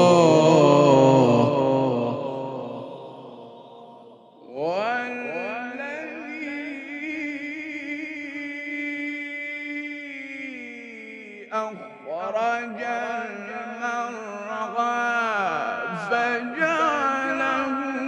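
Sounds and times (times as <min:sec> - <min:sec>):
man chanting recitation: 0:00.0 - 0:03.6, 0:04.4 - 0:18.0.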